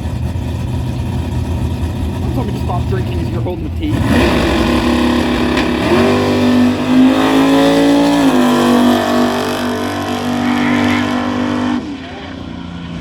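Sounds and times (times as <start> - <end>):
drag racing car accelerating: 0.0 - 13.0.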